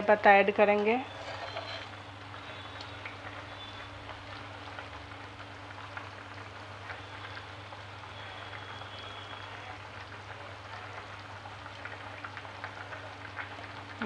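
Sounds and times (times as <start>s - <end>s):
gravy simmering and bubbling: 0.7s - 14.0s.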